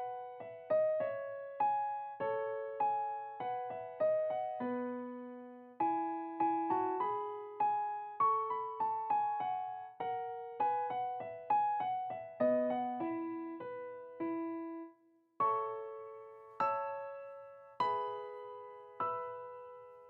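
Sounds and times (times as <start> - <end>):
slow electric piano melody: 0.0 - 20.0.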